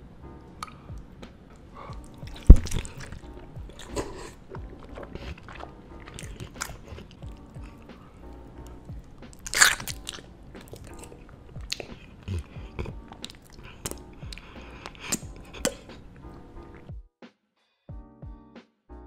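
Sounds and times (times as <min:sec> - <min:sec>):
soft background music: 0:00.0 - 0:17.1, 0:17.9 - 0:19.0
person biting and chewing: 0:01.5 - 0:16.9.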